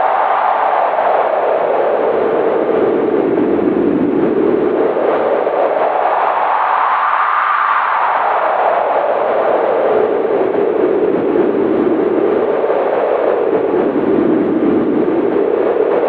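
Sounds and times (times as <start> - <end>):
howling wind: 0.0 - 16.0.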